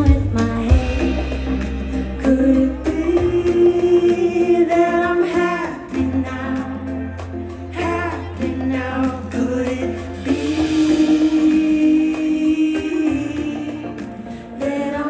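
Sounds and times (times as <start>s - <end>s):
bass line: 0.0s - 15.0s
lead vocal singing: 0.0s - 15.0s
live pop band playing: 0.0s - 15.0s.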